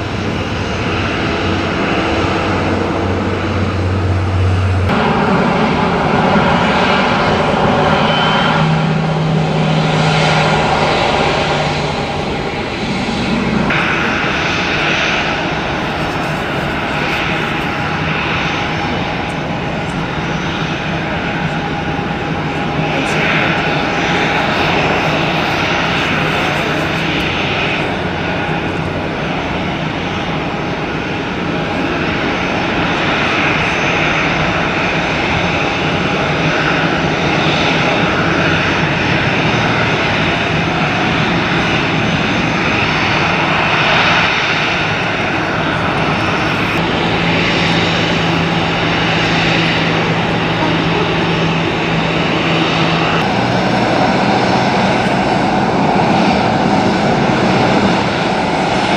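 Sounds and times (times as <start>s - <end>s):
jet engines running: 0.0s - 58.9s.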